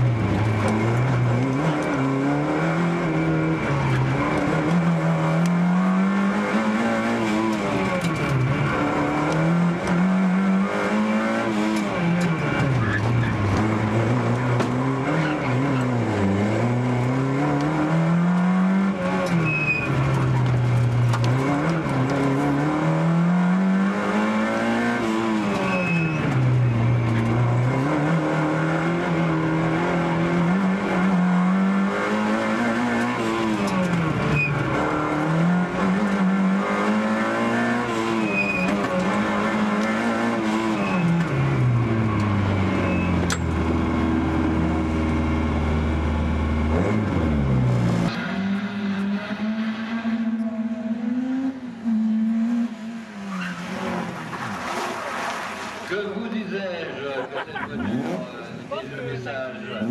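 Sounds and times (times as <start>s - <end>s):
car engine revving: 0.0s - 56.0s, 57.4s - 59.9s.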